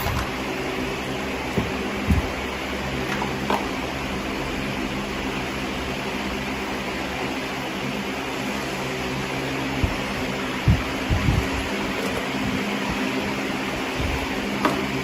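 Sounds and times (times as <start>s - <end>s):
mechanical hum and whir: 0.0s - 15.0s.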